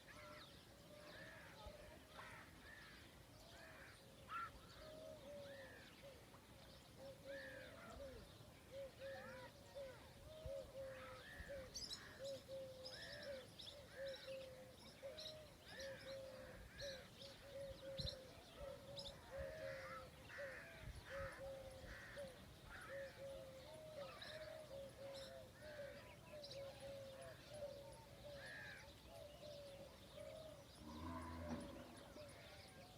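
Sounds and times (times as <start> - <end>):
low arched bird calls: 0.1 - 32.9.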